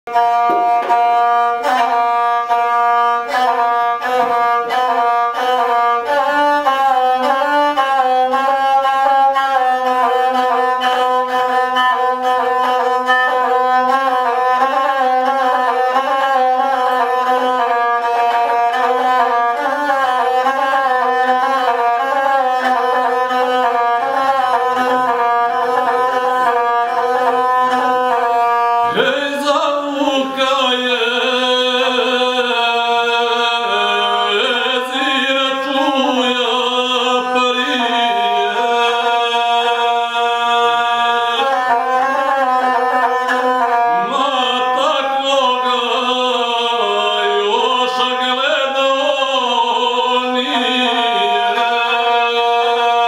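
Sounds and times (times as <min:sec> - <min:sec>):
bowed single-string folk instrument: 0:00.1 - 0:53.0.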